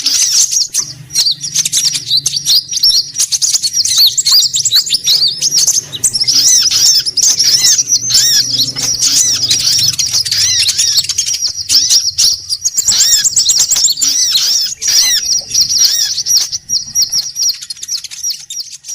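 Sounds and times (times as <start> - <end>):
faint low hum: 0.0 - 18.8
songbirds chirping and twittering: 0.0 - 18.9.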